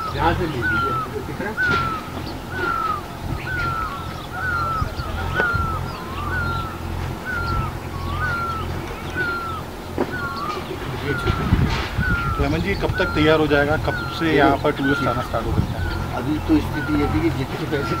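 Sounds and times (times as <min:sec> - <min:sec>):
bird calling whistled note: 0:00.0 - 0:18.0
steady low hum: 0:00.0 - 0:18.0.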